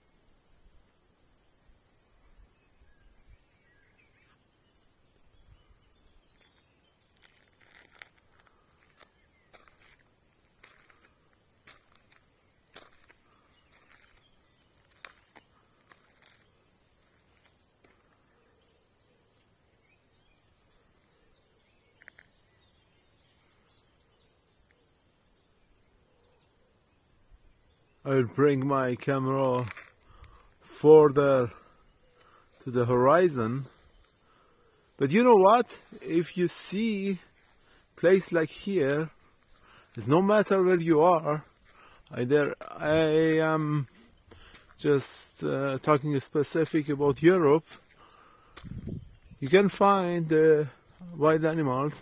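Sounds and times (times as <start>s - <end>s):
distant bird chirps: 0.0s - 52.0s.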